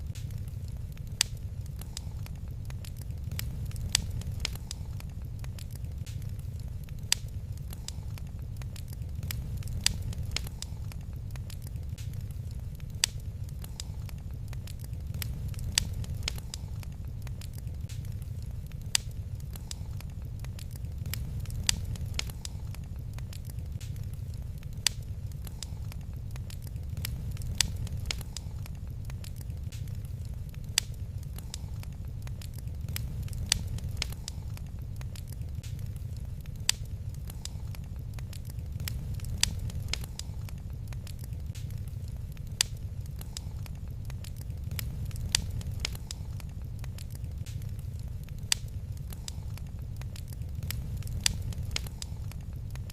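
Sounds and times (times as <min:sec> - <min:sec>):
low rumble: 0:00.0 - 0:52.9
wood fire crackling: 0:00.0 - 0:52.9.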